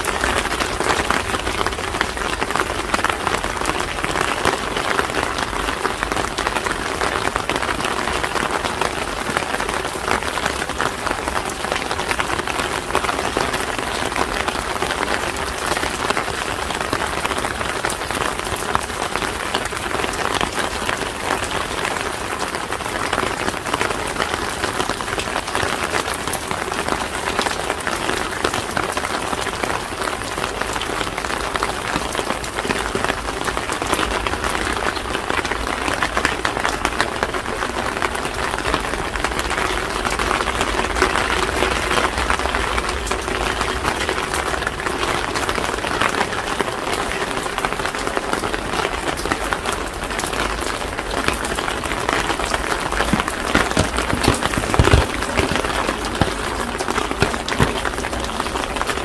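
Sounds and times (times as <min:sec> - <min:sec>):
rain on street: 0:00.0 - 0:59.0.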